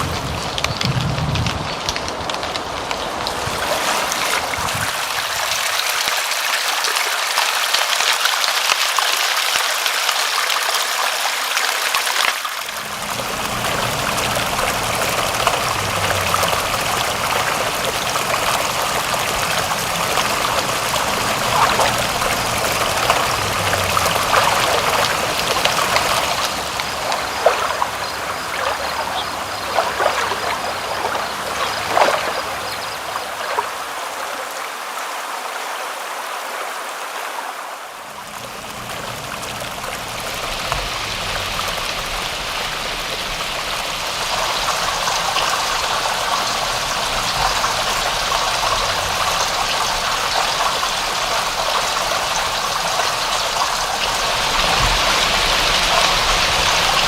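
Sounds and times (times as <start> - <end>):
water drips and splashes: 0.0 - 57.0
water flowing and trickling: 0.0 - 57.0.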